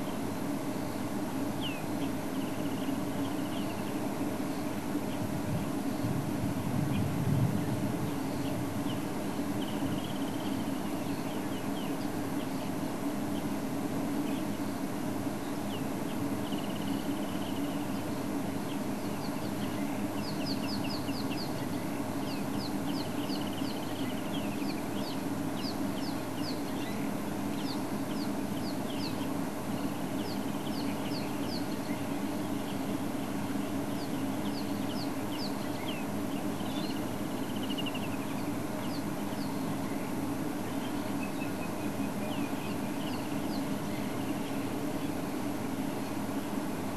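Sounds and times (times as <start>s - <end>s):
wild birds calling: 0.0s - 46.7s
steady low hum: 0.0s - 46.9s.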